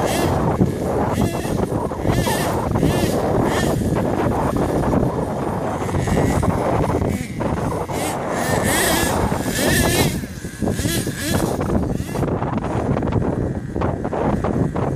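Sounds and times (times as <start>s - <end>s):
small engine revving: 0.0s - 14.9s.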